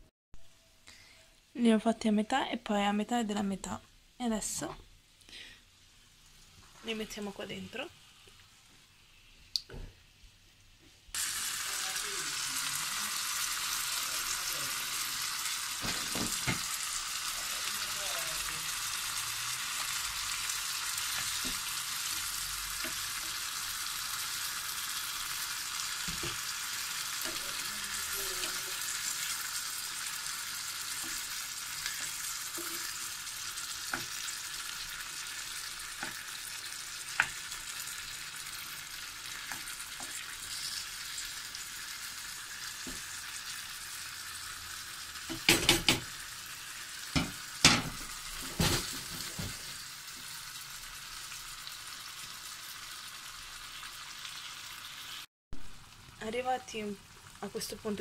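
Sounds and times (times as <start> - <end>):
tomatoes sizzling in a pan: 2.9 - 58.0.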